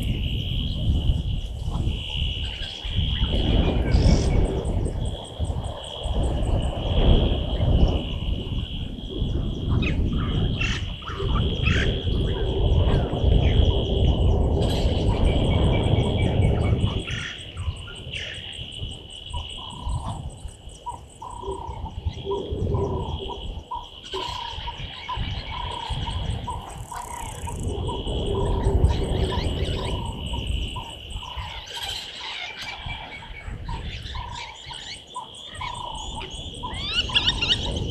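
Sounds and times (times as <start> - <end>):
birds chirping: 0.0 - 37.9
high insect drone: 0.0 - 37.9
wind rumble on microphone: 0.0 - 37.9.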